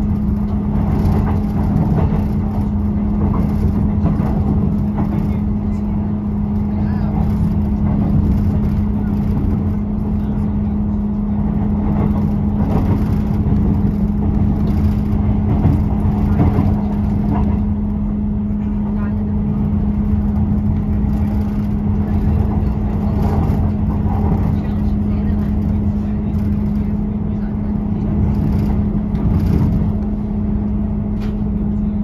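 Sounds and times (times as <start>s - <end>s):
constant hum: 0.0s - 32.0s
diesel train engine drone: 0.0s - 32.0s
train running noise: 0.0s - 32.0s.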